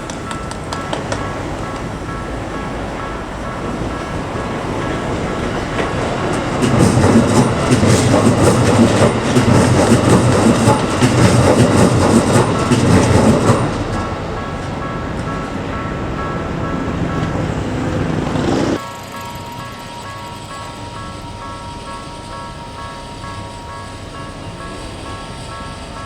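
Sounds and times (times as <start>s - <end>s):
crossing warning bell ringing: 0.0s - 26.0s
train wheels clattering: 0.0s - 26.0s.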